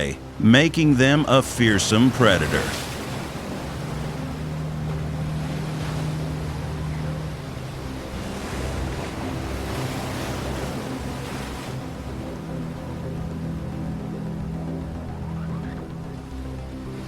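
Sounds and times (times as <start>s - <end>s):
rushing underwater ocean water: 0.0s - 17.0s
low held drone: 2.8s - 17.0s.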